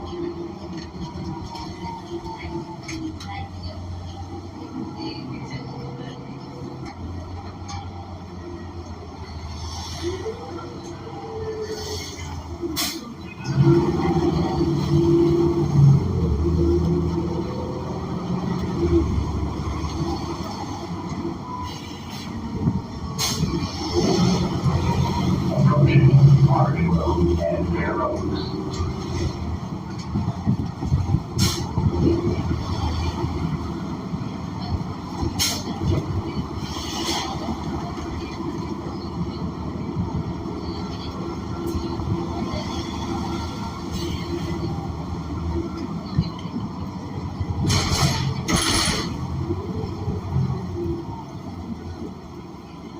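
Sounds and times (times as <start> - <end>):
bus engine running: 0.0 - 52.9
road and body noise: 0.0 - 52.9.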